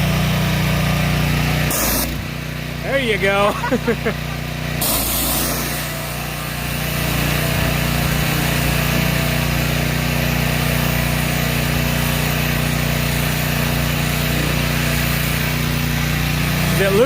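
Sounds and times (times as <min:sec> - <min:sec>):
pressure washer engine humming: 0:00.0 - 0:17.0
water jet hissing: 0:01.6 - 0:02.4, 0:03.4 - 0:17.0.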